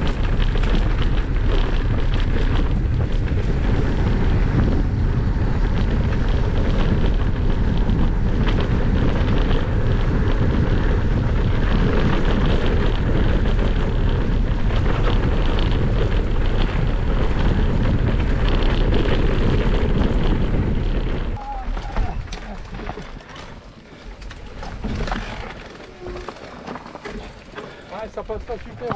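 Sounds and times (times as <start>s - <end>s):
wind buffeting microphone: 0.0s - 23.3s
bike rattles and tyre crunches: 0.0s - 28.9s.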